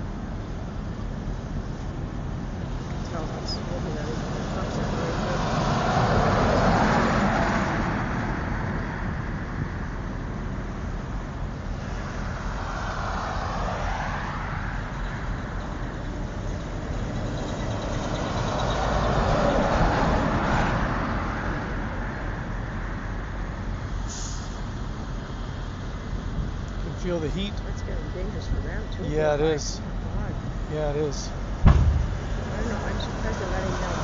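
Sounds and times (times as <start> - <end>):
steady low traffic rumble: 0.0 - 34.0
vehicles passing: 0.0 - 34.0.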